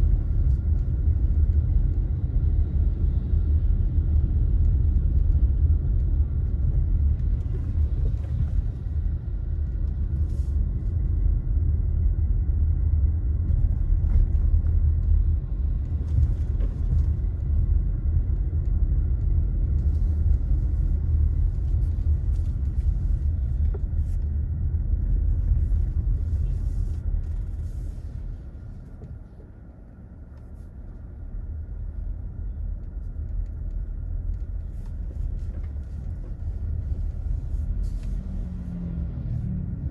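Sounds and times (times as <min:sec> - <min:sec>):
vehicle road and engine rumble: 0:00.0 - 0:39.9.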